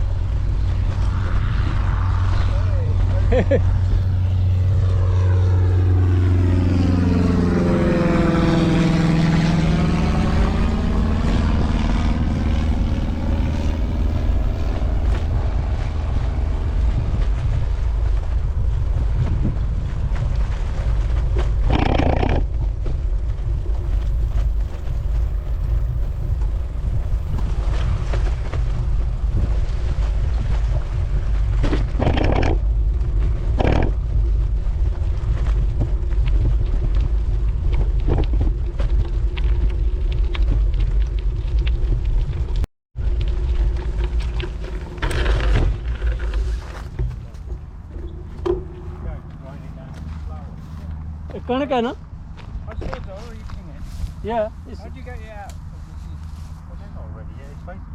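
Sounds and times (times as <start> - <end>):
motor vehicle passing: 0.0 - 57.9
wind rumbling on microphone: 0.0 - 57.9.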